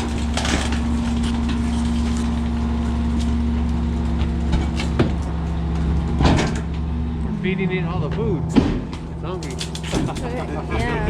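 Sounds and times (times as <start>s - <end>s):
garbage truck engine rumbling: 0.0s - 11.0s.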